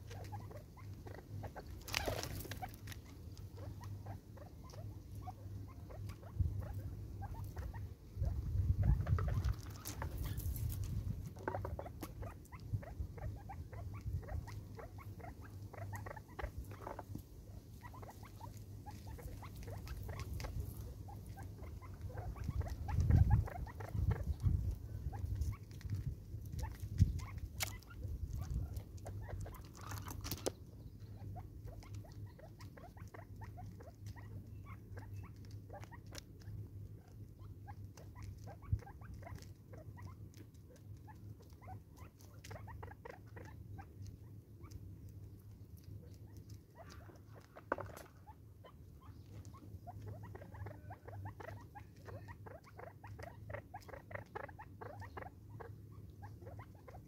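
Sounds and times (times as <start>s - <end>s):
bird pecking at seed: 0.0s - 57.0s.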